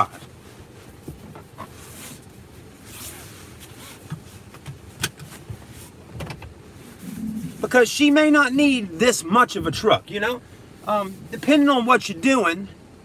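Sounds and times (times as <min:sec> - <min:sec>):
clothing and seat rustling: 0:00.0 - 0:12.4.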